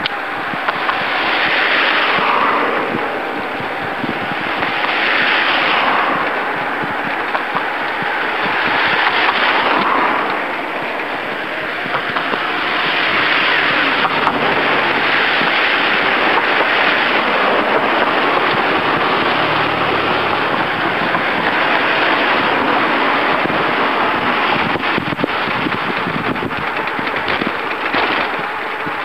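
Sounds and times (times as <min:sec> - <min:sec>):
bicycle tyre and road noise: 0:00.0 - 0:29.0
car passing: 0:00.0 - 0:29.0
wind rushing on microphone: 0:00.0 - 0:29.0.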